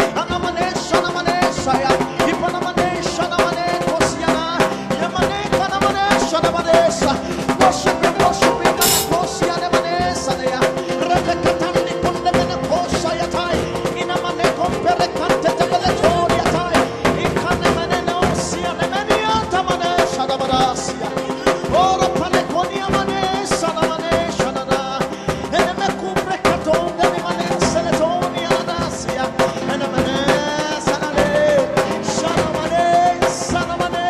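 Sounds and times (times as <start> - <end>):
worship music with drums: 0.0 - 34.0.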